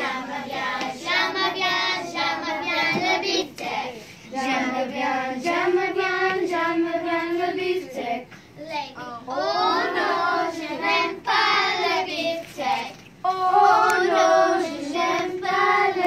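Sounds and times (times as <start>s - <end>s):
children singing together: 0.0s - 8.3s, 8.9s - 16.0s.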